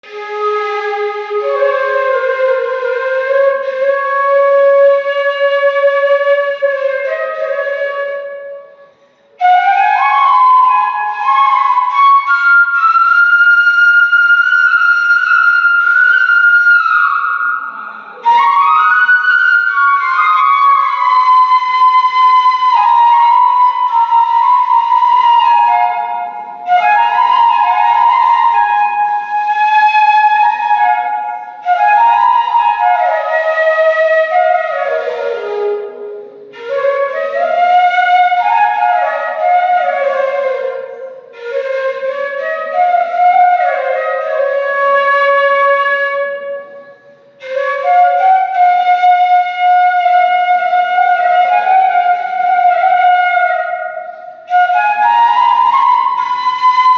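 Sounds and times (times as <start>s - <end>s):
flute-like wind instrument melody: 0.0s - 56.9s.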